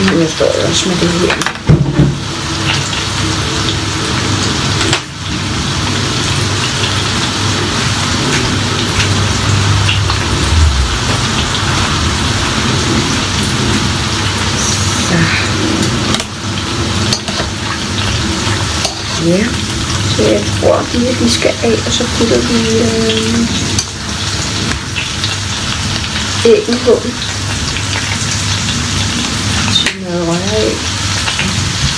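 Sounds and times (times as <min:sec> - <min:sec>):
bacon sizzling in a frying pan: 0:00.0 - 0:31.9.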